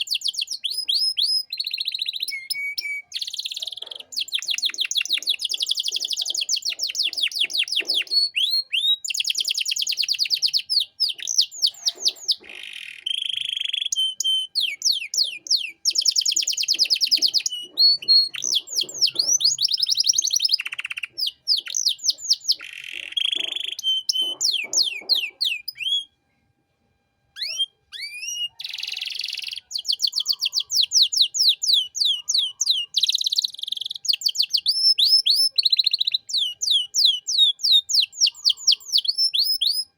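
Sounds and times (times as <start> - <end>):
canary singing trills: 0.0 - 26.2, 27.4 - 39.9.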